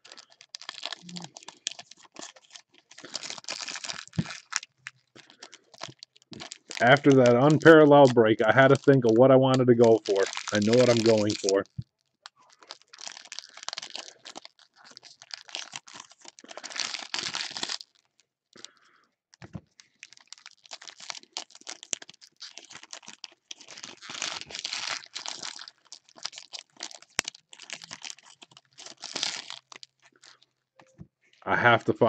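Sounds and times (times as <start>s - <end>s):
foil wrappers crinkling: 0.0s - 30.6s.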